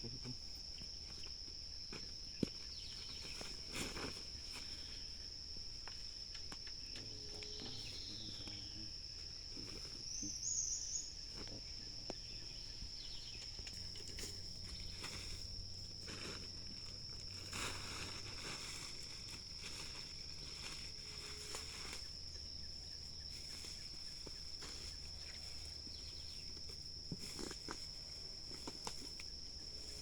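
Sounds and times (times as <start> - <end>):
insects trilling: 0.0 - 30.0
faint rustles: 0.5 - 6.6, 11.2 - 30.0.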